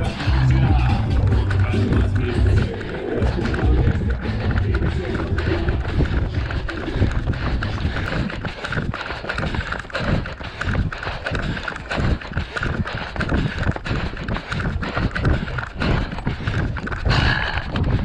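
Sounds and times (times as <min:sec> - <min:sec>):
running footsteps on pavement: 0:00.0 - 0:18.0.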